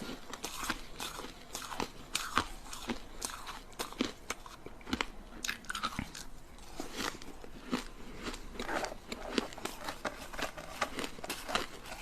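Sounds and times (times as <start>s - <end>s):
ice being bitten and chewed: 0.0s - 12.0s.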